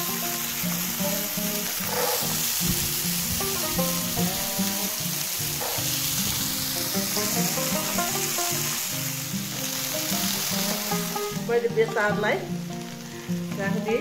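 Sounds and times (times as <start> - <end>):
background music: 0.0 - 14.0
chickpeas sizzling in oil: 0.0 - 14.0.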